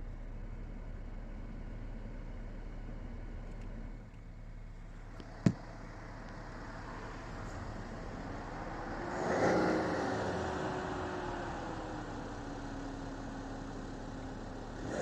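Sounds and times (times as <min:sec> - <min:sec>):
diesel engine idling: 0:00.0 - 0:09.1, 0:10.0 - 0:14.9.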